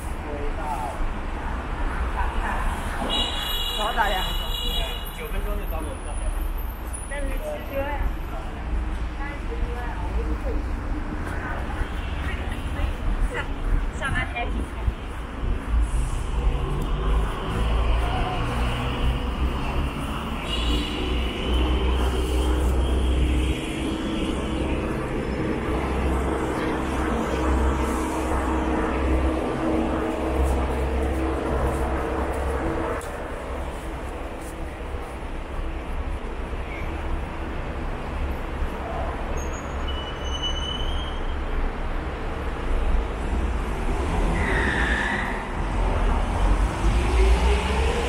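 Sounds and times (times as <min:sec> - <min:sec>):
road traffic rumble: 0:00.0 - 0:48.0.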